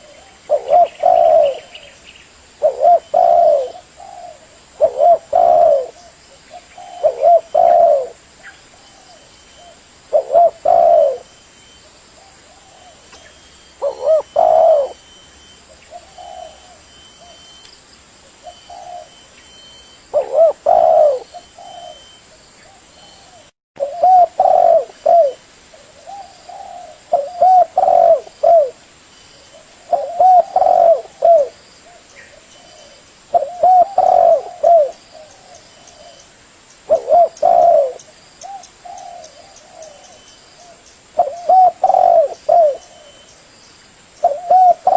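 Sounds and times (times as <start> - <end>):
dove cooing: 0.0 - 2.0, 2.6 - 11.4, 12.2 - 17.6, 18.4 - 28.8, 29.4 - 36.3, 36.9 - 43.3, 44.2 - 44.9.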